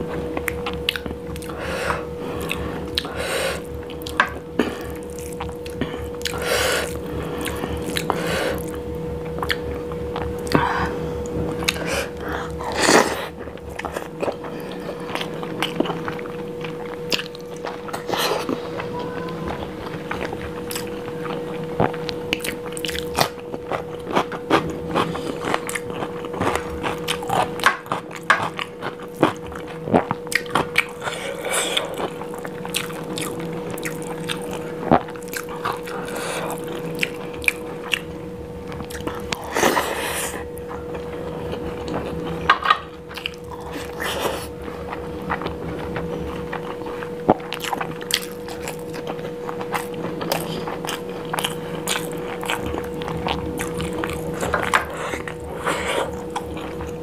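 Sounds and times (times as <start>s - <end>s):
faint steady hum: 0.0s - 57.0s
close chewing mouth sounds: 0.3s - 18.6s, 19.5s - 57.0s.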